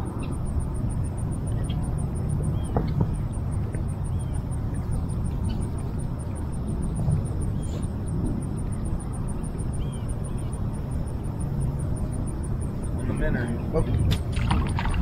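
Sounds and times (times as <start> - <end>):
faint bird chirps: 0.0 - 13.8
insect chirping: 0.0 - 15.0
wind rumbling on microphone: 0.0 - 15.0.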